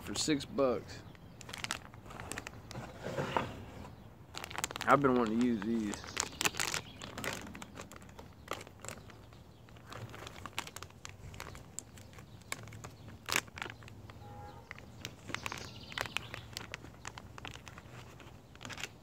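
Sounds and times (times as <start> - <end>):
plastic bag crinkling: 1.3 - 3.0, 4.3 - 19.0.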